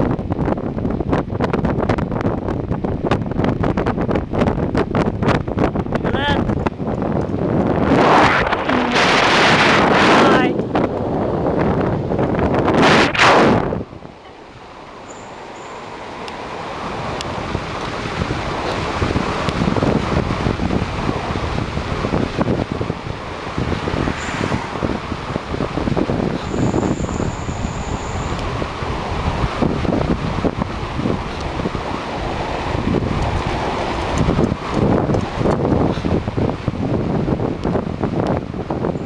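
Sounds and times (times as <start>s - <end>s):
road noise from moving vehicle: 0.0s - 39.0s
wind buffeting microphone: 0.0s - 39.0s.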